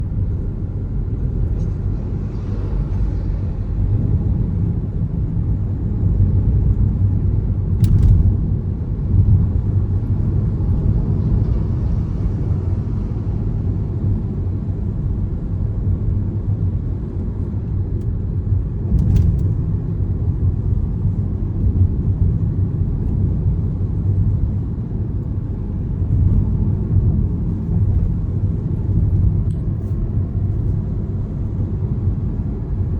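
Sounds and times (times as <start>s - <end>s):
road and engine rumble: 0.0s - 32.9s.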